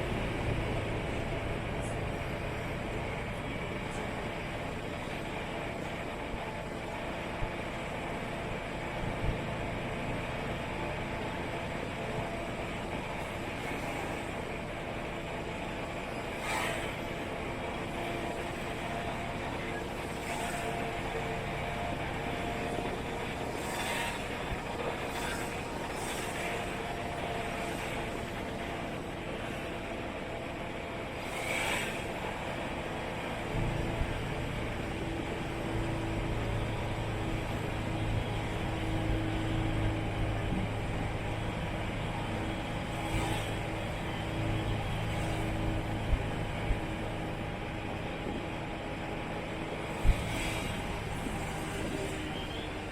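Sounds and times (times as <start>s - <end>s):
constant low hum: 0.0s - 52.9s
vehicle engine and road rumble: 0.0s - 52.9s.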